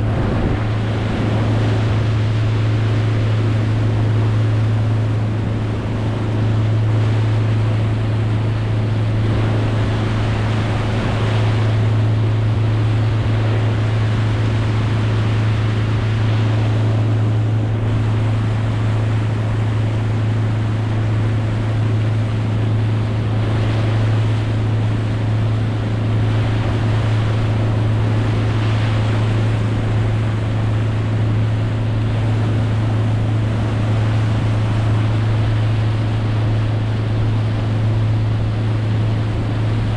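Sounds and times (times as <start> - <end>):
boat motor humming: 0.0 - 39.9
water rushing: 0.0 - 39.9
wind noise: 0.0 - 39.9.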